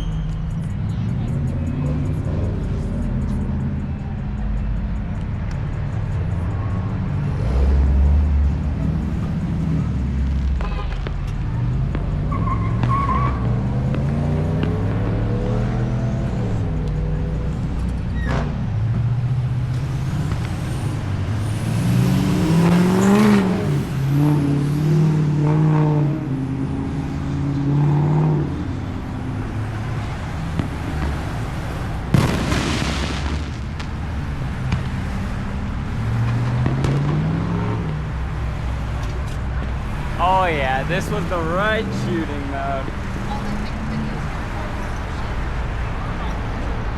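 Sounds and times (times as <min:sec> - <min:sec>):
vehicle engines revving: 0:00.0 - 0:46.9.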